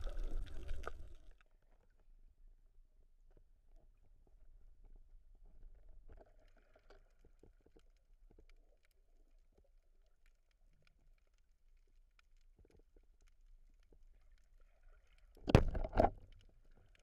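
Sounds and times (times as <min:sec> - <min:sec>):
small clicks and crackles: 0:00.0 - 0:01.6, 0:04.8 - 0:17.0.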